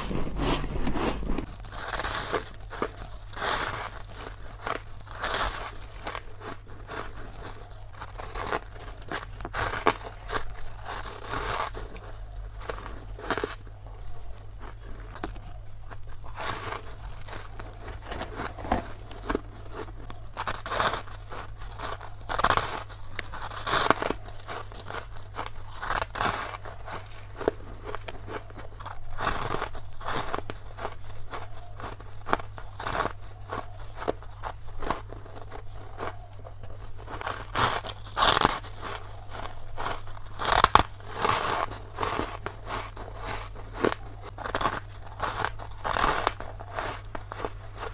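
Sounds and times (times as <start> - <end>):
crunching bites of frost: 0.0 - 47.9
steady low hum: 0.0 - 47.9.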